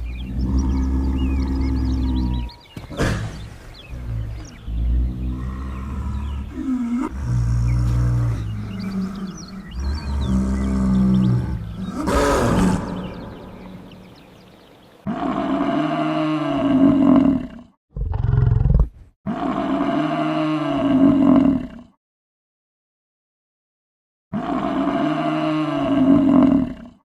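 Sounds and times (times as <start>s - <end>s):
wild animals roaring and growling: 0.0s - 22.0s, 24.3s - 27.0s.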